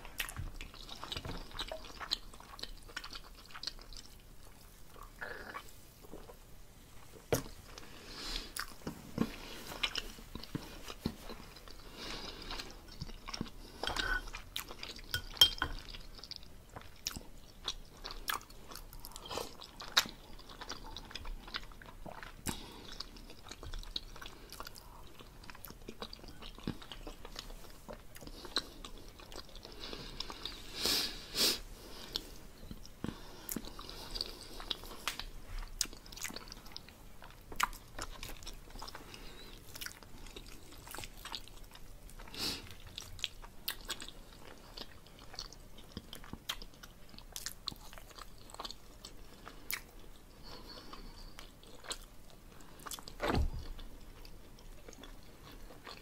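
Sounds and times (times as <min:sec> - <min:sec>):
person chewing wetly: 0:00.0 - 0:06.4, 0:07.4 - 0:30.7, 0:31.9 - 0:56.0.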